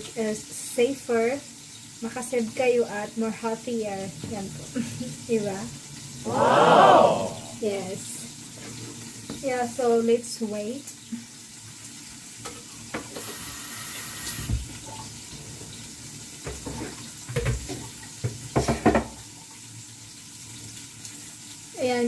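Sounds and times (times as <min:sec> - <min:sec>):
chicken frying in oil: 0:00.0 - 0:06.2, 0:07.7 - 0:22.0.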